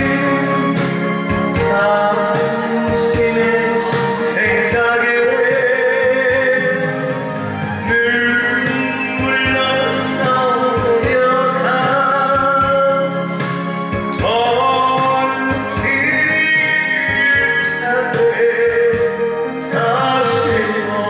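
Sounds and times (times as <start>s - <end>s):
musical accompaniment: 0.0s - 21.0s
person singing: 0.0s - 21.0s.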